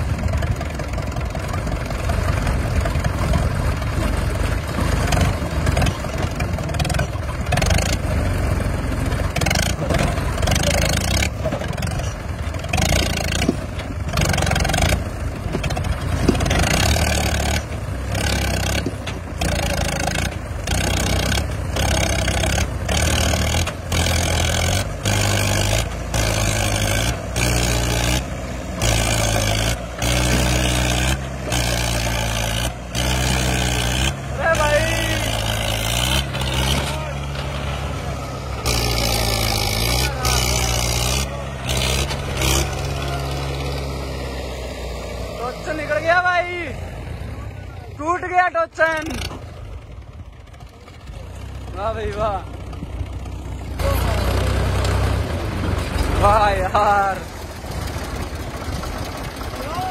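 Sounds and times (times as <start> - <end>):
tractor diesel engines labouring: 0.0 - 59.9.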